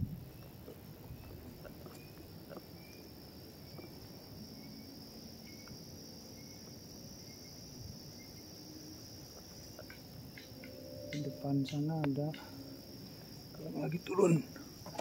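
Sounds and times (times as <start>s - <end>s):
high-pitched insect chorus: 0.0s - 15.0s
faint chirps: 0.3s - 14.8s.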